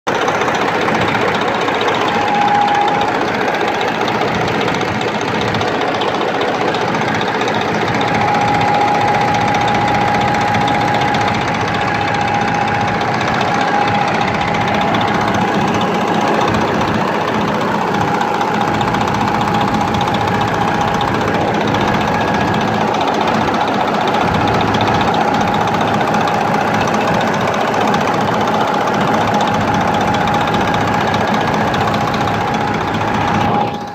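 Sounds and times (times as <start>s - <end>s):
diesel engine idling: 0.1s - 33.9s
high steady whine: 0.1s - 33.9s.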